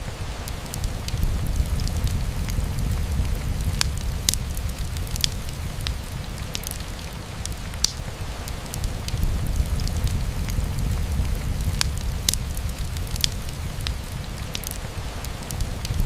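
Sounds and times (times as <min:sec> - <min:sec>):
rain on a window: 0:00.0 - 0:16.0
wood fire crackling: 0:00.0 - 0:16.0.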